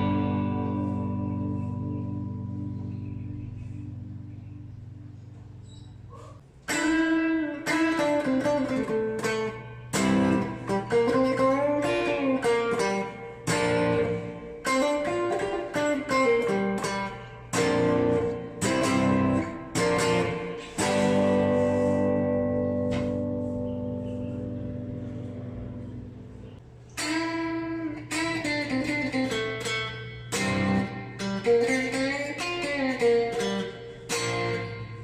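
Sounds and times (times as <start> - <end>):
electric guitar with string bends: 0.0 - 35.0
low amp hum: 0.0 - 35.0.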